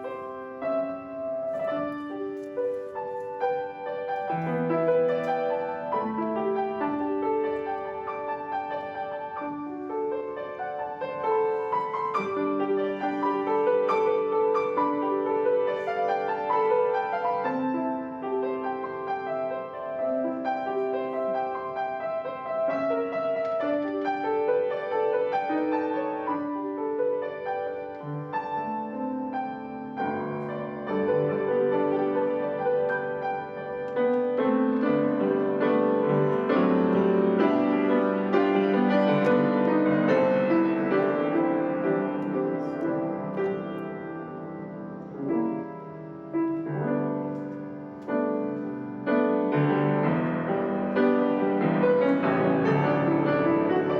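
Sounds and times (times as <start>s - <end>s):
slow gentle solo piano: 0.0s - 53.9s.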